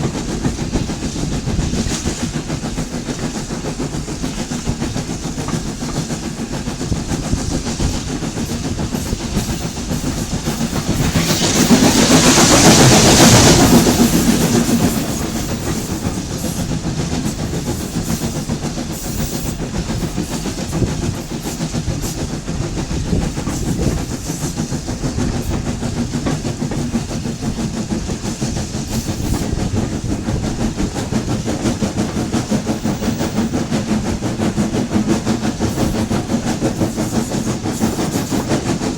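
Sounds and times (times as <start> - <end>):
train rumbling on track: 0.0 - 38.9
train rushing: 0.0 - 38.9
wheels clacking over rail joints: 0.0 - 38.9.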